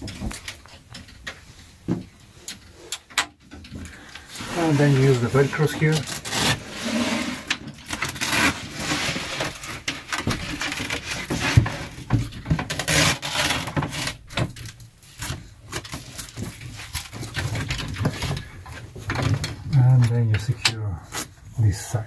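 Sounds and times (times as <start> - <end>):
wood scraping and rubbing: 3.7 - 22.0.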